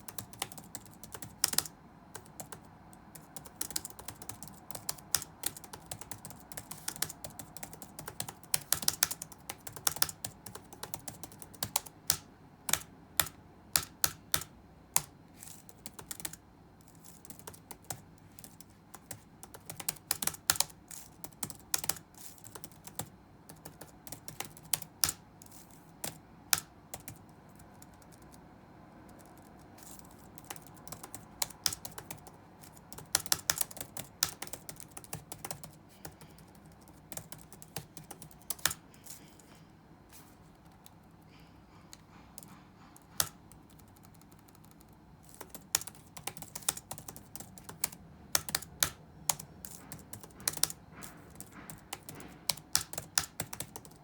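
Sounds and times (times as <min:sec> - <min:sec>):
computer keyboard typing: 0:00.0 - 0:39.5, 0:40.2 - 0:54.0
faint room hum: 0:00.0 - 0:54.0.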